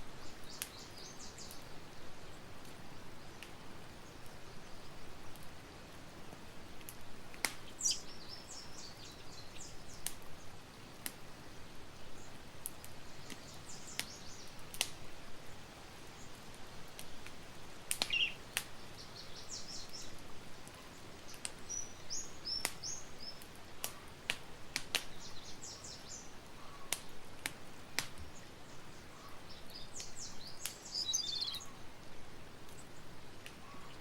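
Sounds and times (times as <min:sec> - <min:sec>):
small birds chirping: 0:00.2 - 0:05.6, 0:06.8 - 0:11.2, 0:11.9 - 0:34.0
campfire crackling and popping: 0:00.2 - 0:33.6.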